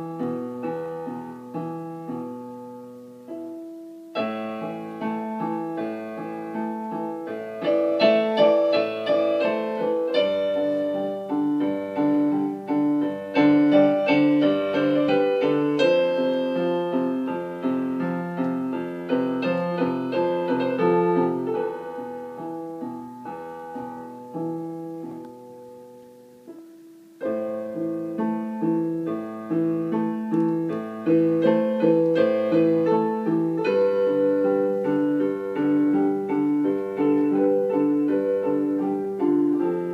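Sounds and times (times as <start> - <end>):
piano playing: 0.0 - 39.9.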